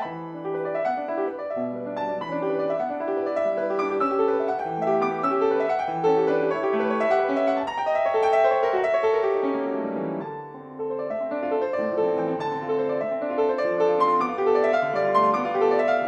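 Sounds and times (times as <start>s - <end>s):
classical piano piece: 0.0s - 16.0s.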